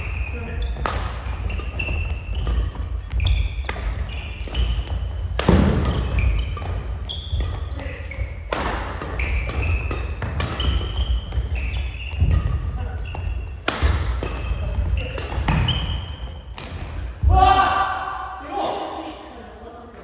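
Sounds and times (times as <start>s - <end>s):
shoes squeaking: 0.0s - 17.3s
rackets striking shuttlecock: 0.1s - 17.0s.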